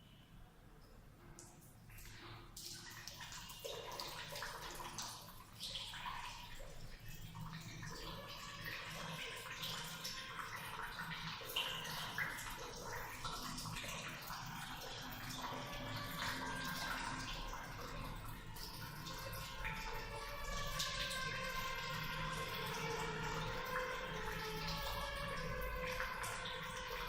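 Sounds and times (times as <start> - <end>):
water trickling and dripping: 0.8 - 27.0.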